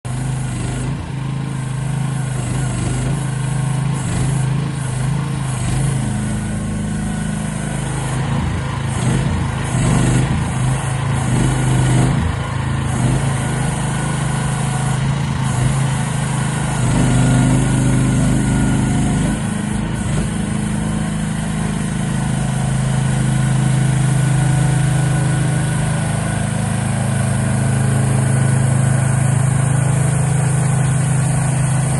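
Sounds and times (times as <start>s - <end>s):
small petrol engine running: 0.0s - 31.9s.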